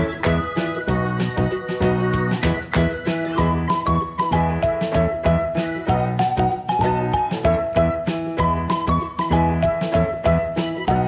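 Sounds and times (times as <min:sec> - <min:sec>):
cheerful music with plucked melody: 0:00.0 - 0:11.0.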